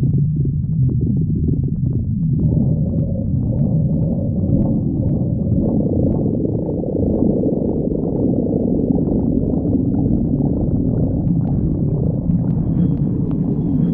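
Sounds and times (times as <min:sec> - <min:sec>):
stomach growling: 0:00.0 - 0:13.9.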